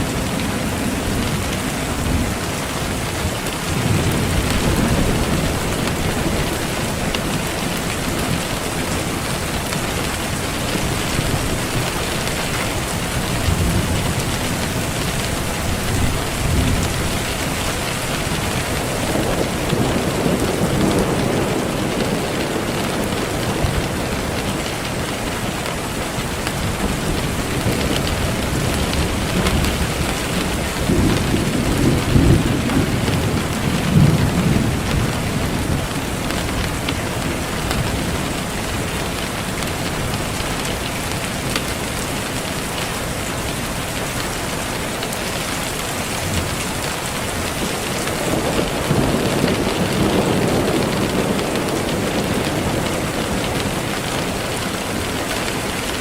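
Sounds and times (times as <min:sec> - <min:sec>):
low thunder rumbling: 0:00.0 - 0:42.0, 0:45.7 - 0:56.0
steady rain: 0:00.0 - 0:56.0.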